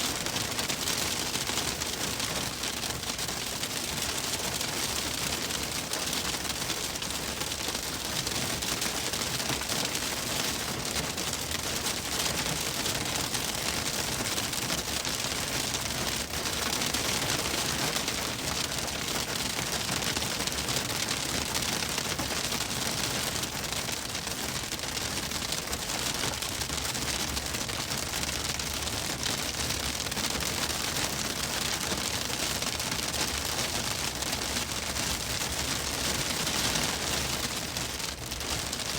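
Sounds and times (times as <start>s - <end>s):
hail pelting a car roof: 0.1s - 38.9s.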